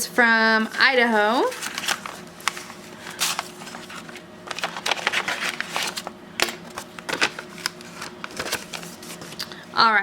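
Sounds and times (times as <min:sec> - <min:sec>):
paper and plastic packaging crinkling: 0:00.8 - 0:09.5.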